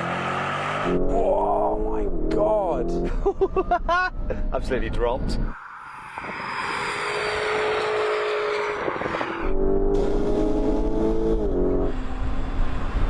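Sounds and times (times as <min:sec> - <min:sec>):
car whine: 0:00.0 - 0:13.0.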